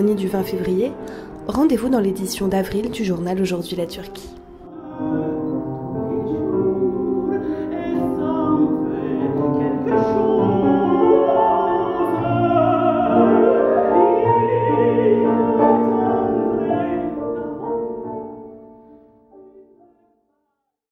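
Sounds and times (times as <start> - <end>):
grand piano: 0.0 - 20.1.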